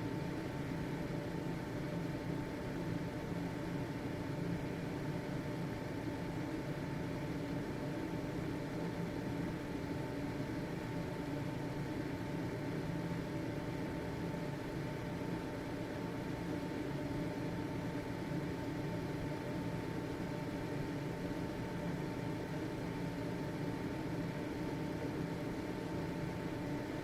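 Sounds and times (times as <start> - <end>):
ventilation fan whirring: 0.0 - 27.0.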